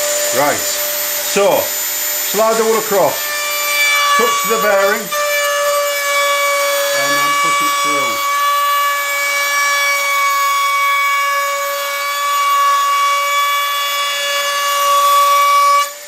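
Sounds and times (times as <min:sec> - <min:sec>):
rotary tool high-pitched whine: 0:00.0 - 0:16.0
router bit cutting wood: 0:00.0 - 0:16.0.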